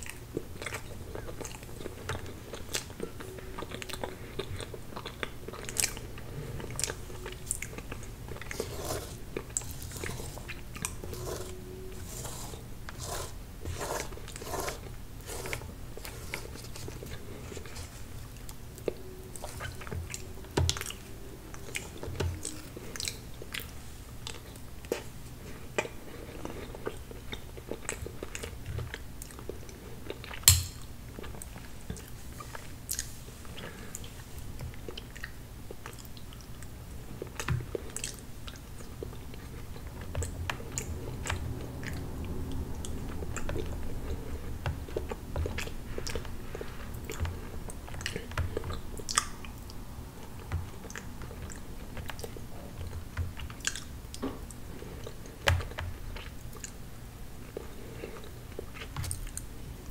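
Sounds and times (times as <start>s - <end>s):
chewing: 0.0s - 30.4s, 31.1s - 56.8s, 57.4s - 59.5s.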